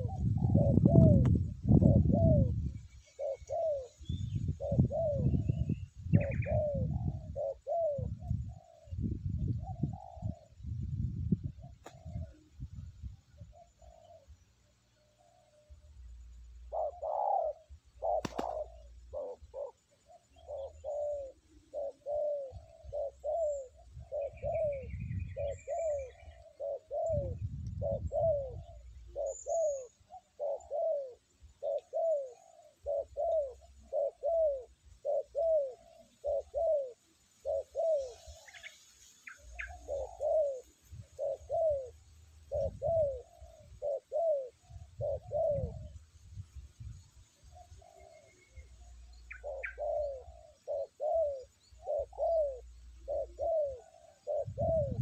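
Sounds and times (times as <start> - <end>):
dove cooing: 0.0 - 46.2, 46.8 - 55.0.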